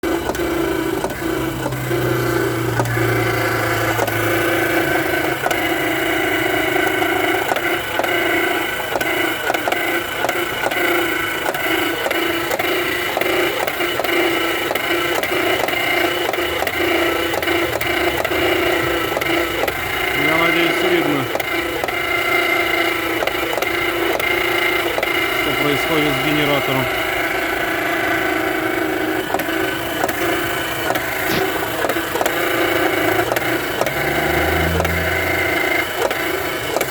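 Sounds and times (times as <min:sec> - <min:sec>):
car engine whine: 0:00.0 - 0:36.9.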